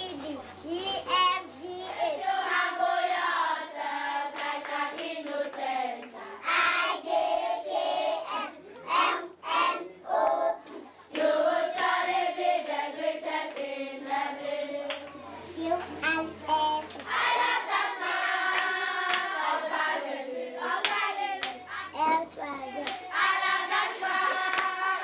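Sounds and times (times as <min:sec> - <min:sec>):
children singing in unison: 0:01.1 - 0:15.0, 0:17.0 - 0:25.0.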